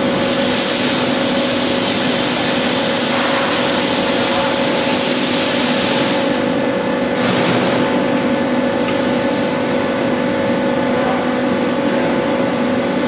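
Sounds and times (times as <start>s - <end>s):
tube bending machine humming: 0.0s - 13.0s.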